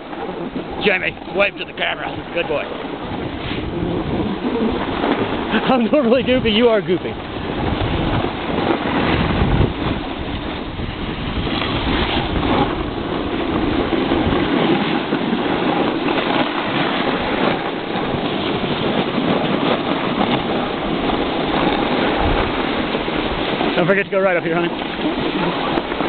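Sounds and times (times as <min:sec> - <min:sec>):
snowboard scraping over snow: 0:00.0 - 0:26.0
wind buffeting microphone: 0:00.0 - 0:26.0.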